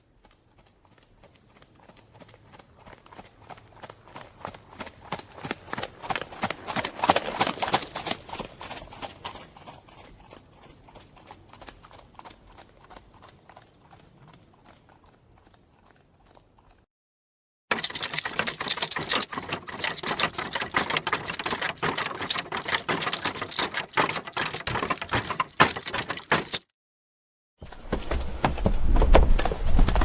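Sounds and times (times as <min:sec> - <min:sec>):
galloping horse hooves: 0:00.0 - 0:16.9, 0:17.7 - 0:26.7, 0:27.6 - 0:30.0.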